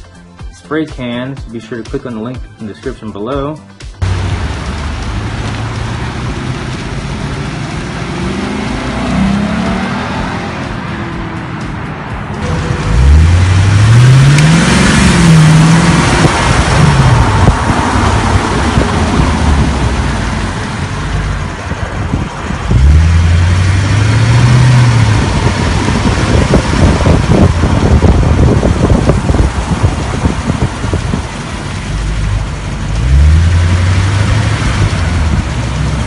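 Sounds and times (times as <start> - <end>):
road and wind noise: 0.0 - 36.0
car engine accelerating: 4.0 - 36.0.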